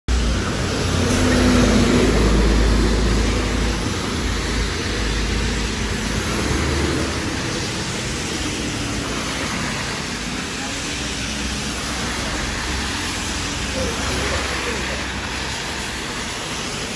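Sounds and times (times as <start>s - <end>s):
rain and tyres on wet road: 0.1s - 16.9s
traffic rumble: 0.1s - 16.9s.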